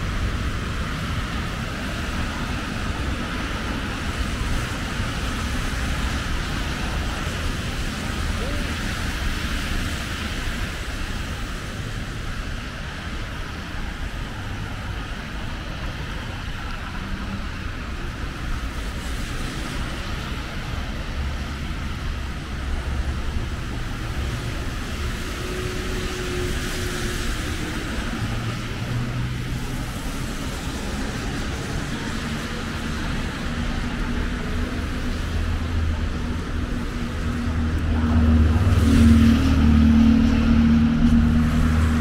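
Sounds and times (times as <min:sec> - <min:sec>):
tyres hissing on wet asphalt: 0:00.0 - 0:42.0.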